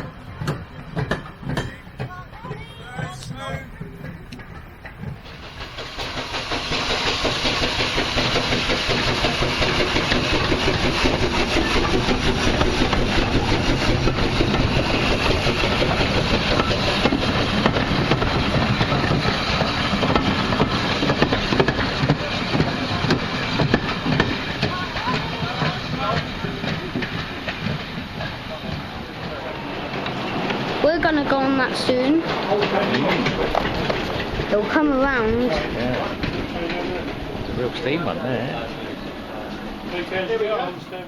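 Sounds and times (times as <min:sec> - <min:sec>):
steam engine hissing: 0:00.0 - 0:41.0.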